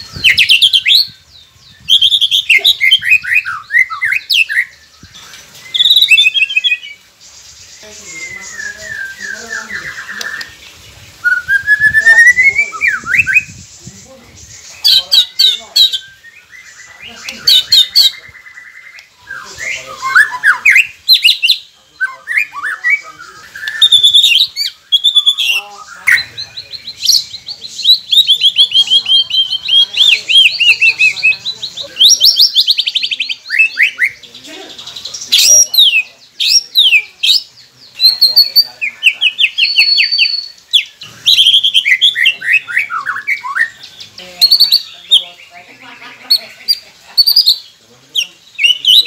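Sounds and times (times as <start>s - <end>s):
bird singing: 0.0s - 49.0s.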